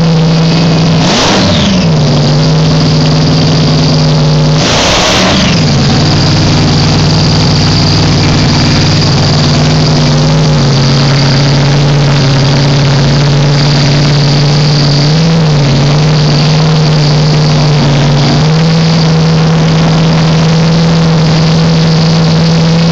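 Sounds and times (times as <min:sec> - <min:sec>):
dragster engine at fast idle: 0:00.0 - 0:22.9.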